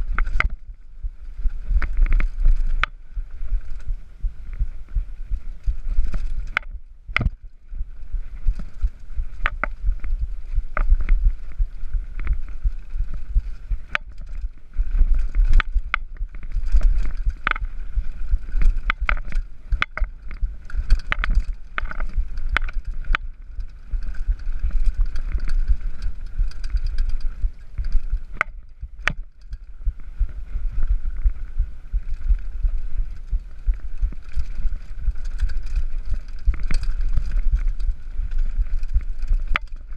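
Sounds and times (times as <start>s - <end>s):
bike rattling over rocks: 0.0s - 39.9s
wind rumble on microphone: 0.0s - 39.9s.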